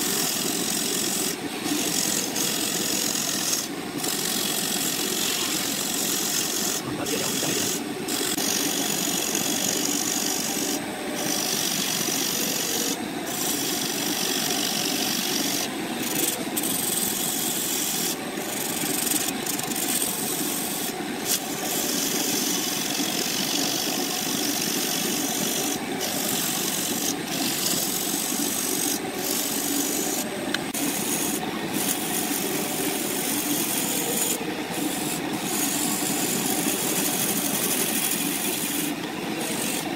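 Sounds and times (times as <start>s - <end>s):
wood lathe tool scraping wood: 0.0s - 39.9s.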